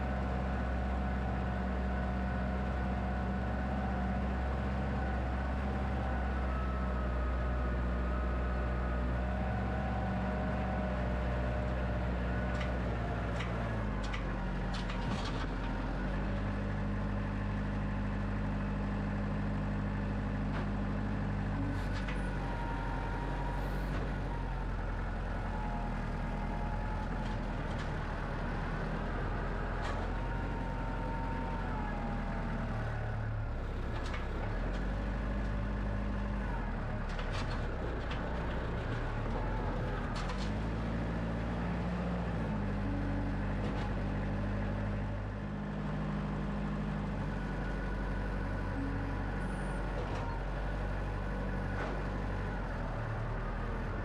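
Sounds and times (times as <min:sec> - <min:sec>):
band sawmill engine running: 0:00.0 - 0:54.0.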